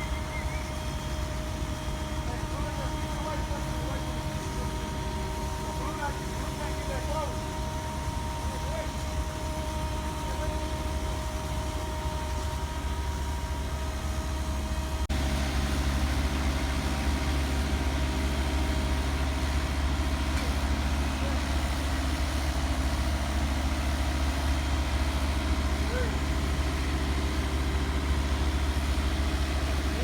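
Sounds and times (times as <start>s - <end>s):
paving machine engine humming: 0.0s - 30.0s.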